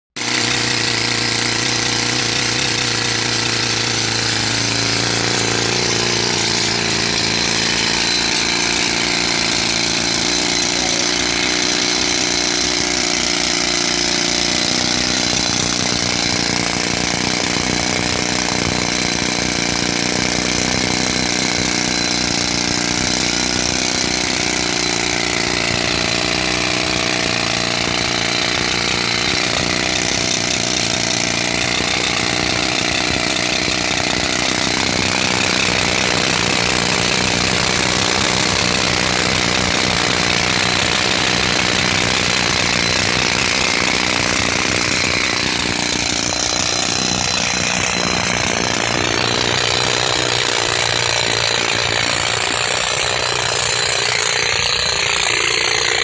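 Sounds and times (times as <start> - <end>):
jackhammer drilling into rock: 0.2 - 56.0.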